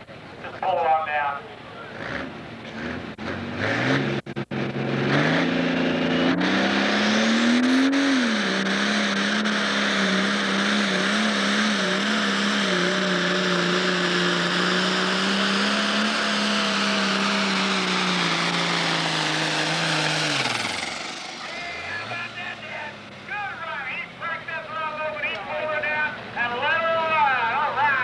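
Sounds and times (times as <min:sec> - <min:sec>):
tractor diesel engine at full throttle: 0:00.0 - 0:28.0.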